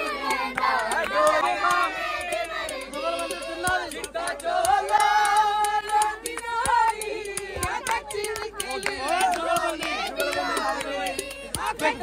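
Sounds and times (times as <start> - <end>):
crowd singing folk song: 0.0 - 12.0
hand claps: 0.0 - 12.0.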